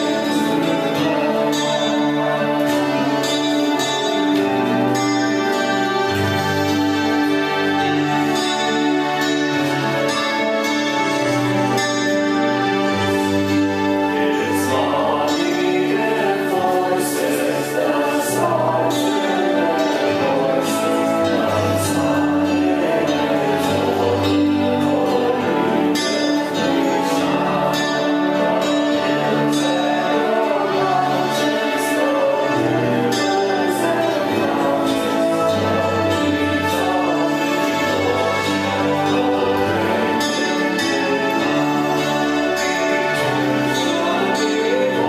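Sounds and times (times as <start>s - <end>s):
worship song with singing: 0.0s - 45.0s.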